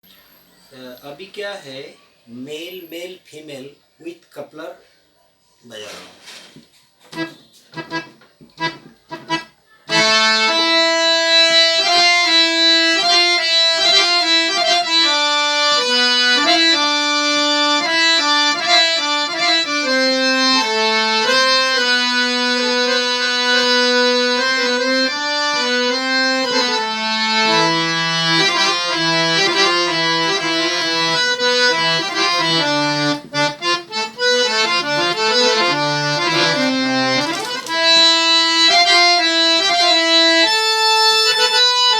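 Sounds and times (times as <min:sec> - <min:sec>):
harmonium playing a melody: 0:07.1 - 0:41.9.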